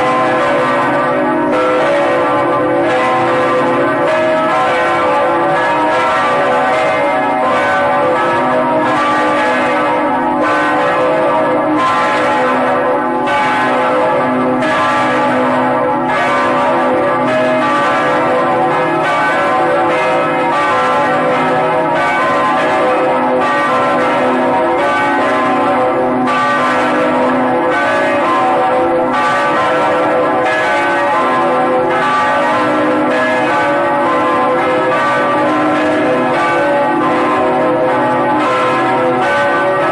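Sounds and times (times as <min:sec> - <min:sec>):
bells pealing: 0:00.0 - 0:39.9.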